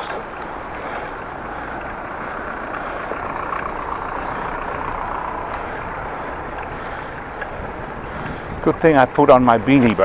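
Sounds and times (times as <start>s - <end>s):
bicycle road noise: 0.0s - 10.0s
vehicle engines rumbling: 0.0s - 10.0s
wind noise: 0.0s - 10.0s.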